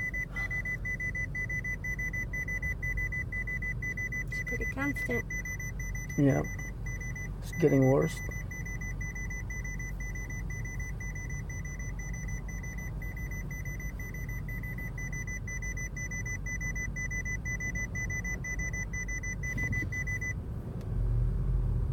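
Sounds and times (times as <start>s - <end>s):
low steady rumble: 0.0s - 21.9s.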